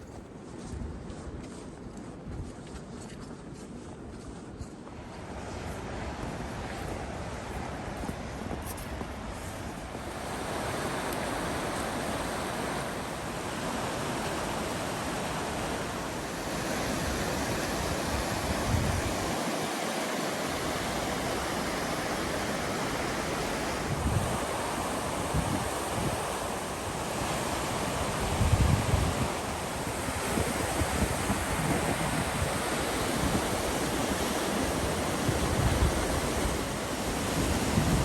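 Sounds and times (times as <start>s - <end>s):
strong wind through woods: 0.0s - 38.0s
wind buffeting microphone: 0.0s - 38.0s.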